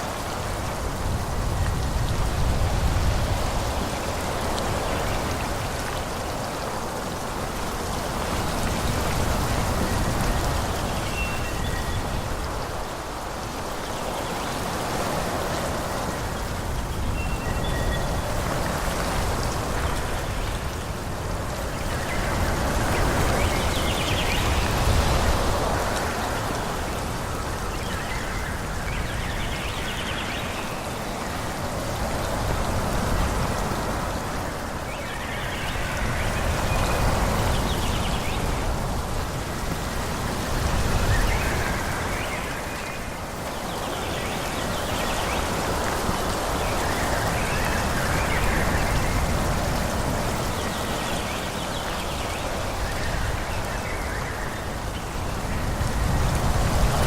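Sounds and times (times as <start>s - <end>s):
wind through forest trees: 0.0s - 57.0s.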